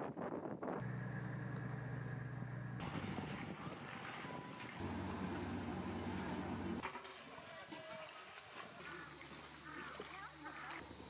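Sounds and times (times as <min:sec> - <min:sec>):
boat engine hum: 0:00.8 - 0:11.0.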